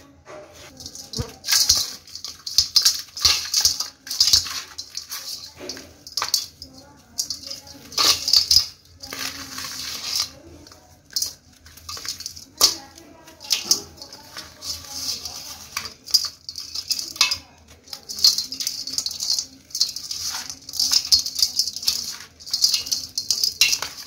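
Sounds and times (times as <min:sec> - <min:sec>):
grit rattling onto metal bowl: 0:00.6 - 0:24.0.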